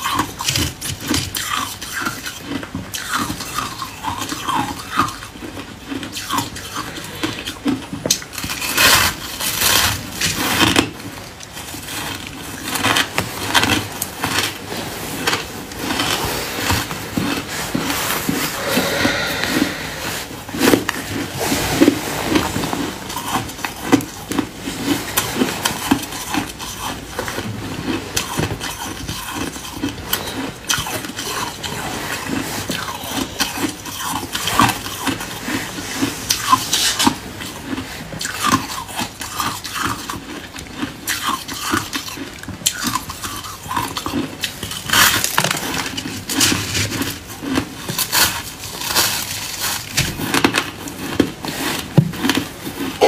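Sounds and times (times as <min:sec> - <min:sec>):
chewing crunchy ice: 0:00.0 - 0:19.9, 0:22.3 - 0:53.0.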